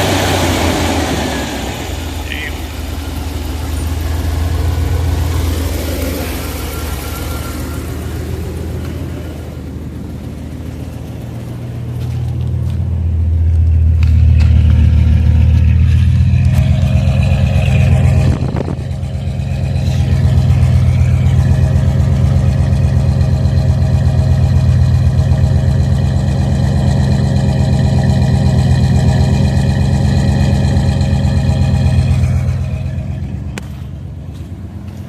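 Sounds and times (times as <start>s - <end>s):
van engine running: 0.0s - 35.0s.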